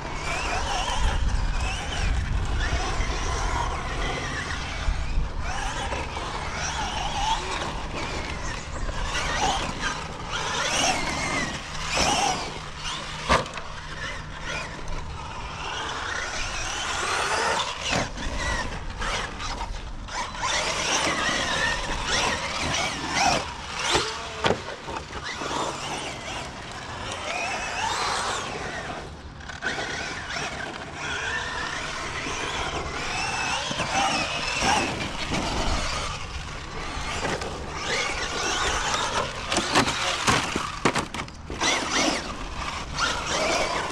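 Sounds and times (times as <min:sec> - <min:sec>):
electric motor whining: 0:00.0 - 0:43.9.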